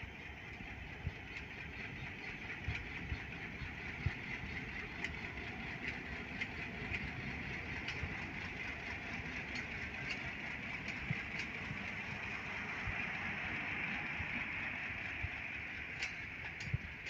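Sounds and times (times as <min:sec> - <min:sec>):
locomotive engine running: 0:00.0 - 0:17.0.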